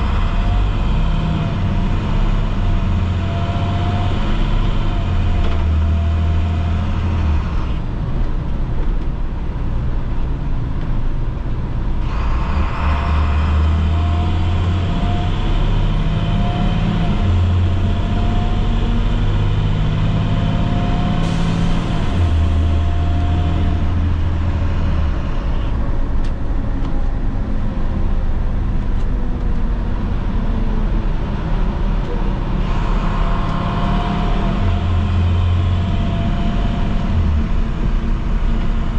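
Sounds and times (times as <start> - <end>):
diesel bus engine revving: 0.0 - 38.9.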